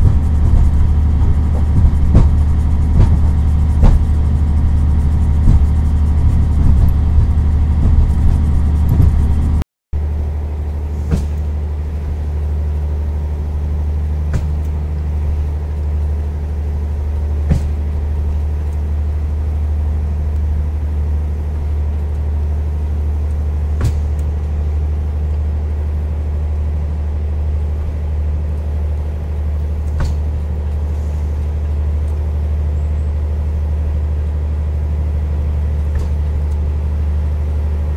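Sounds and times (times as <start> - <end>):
train rumble: 0.0 - 37.9.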